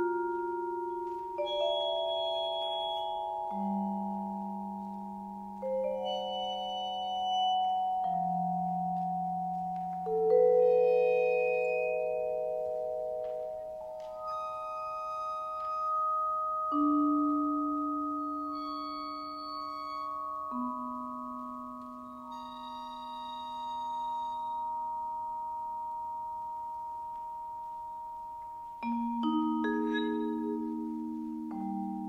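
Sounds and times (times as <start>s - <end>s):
vibraphone playing slow music: 0.0s - 32.0s.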